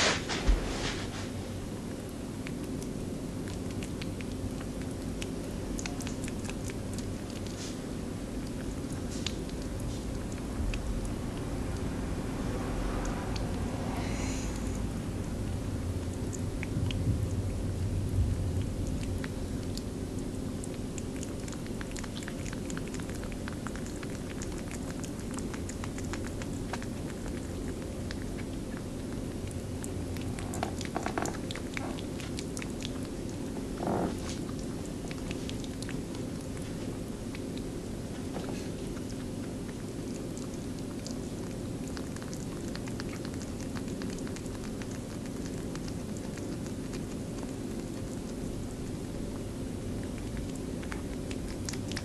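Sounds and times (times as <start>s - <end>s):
rabbit licking and lapping: 0.0s - 52.0s
low hum: 1.4s - 52.0s.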